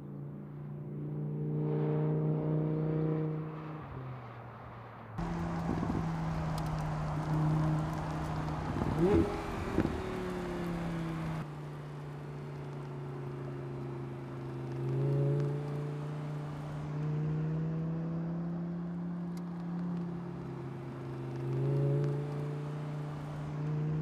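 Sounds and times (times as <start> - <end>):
car engine driving: 2.3 - 24.0.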